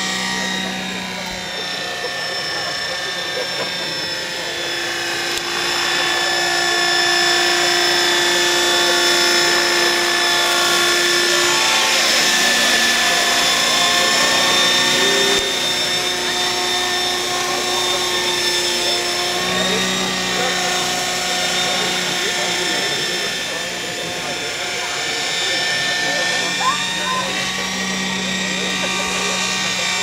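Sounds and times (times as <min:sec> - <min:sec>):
model helicopter motor whine: 0:00.0 - 0:30.0.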